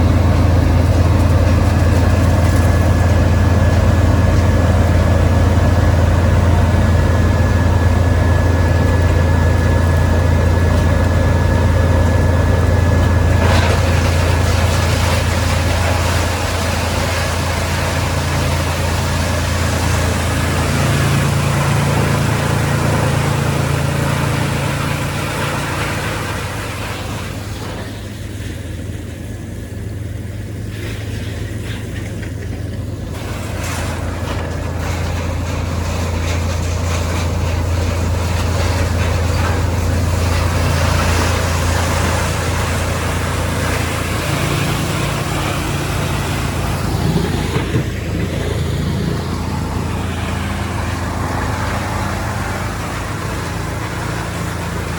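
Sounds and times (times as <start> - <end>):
wood chipper running: 0.0 - 54.9.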